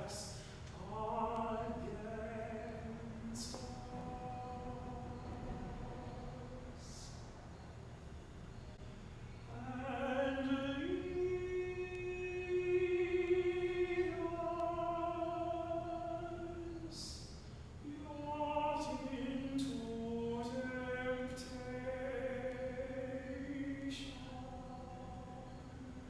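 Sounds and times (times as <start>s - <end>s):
person singing unaccompanied chant: 0.0s - 7.4s, 9.5s - 26.0s.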